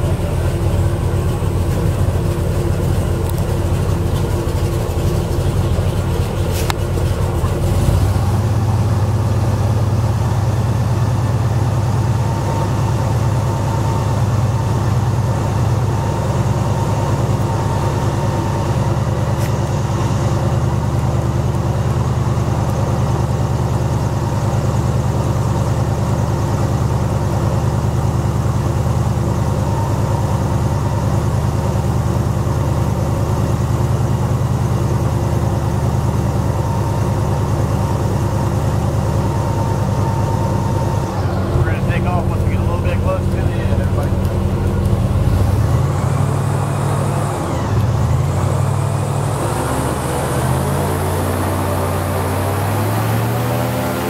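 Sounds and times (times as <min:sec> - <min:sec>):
airboat engine and propeller: 0:00.0 - 0:54.0.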